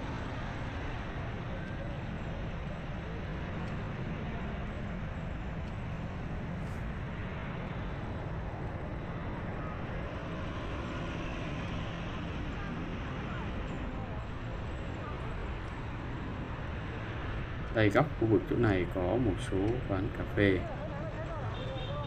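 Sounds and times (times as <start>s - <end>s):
city traffic noise: 0.0s - 22.0s.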